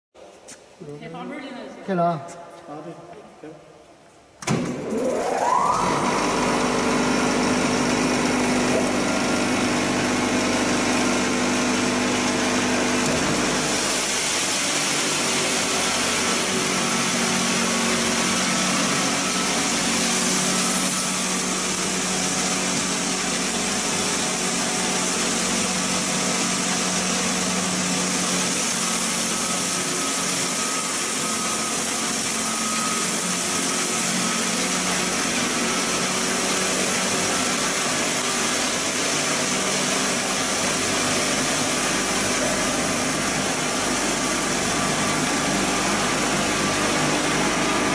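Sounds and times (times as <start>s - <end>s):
motor spinning up whine: 4.4s - 47.9s
machinery running loudly: 4.6s - 47.9s.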